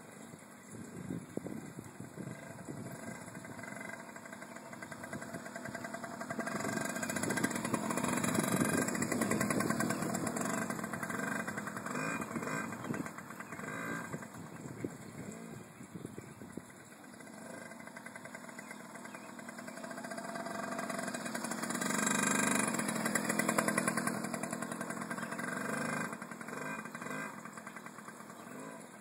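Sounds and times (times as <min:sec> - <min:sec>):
dirt bike engine passing: 0:00.8 - 0:29.0.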